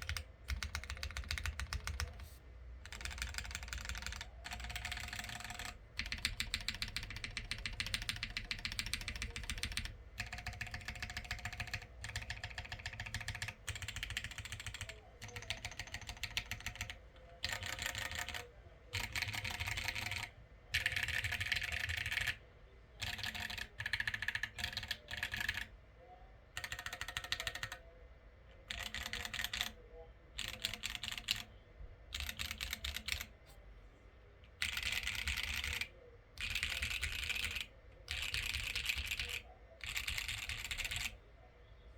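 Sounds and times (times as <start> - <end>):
mechanical keyboard typing: 0.0 - 22.4, 23.0 - 25.7, 26.6 - 27.8, 28.6 - 29.8, 30.4 - 31.5, 32.1 - 33.4, 34.5 - 41.2.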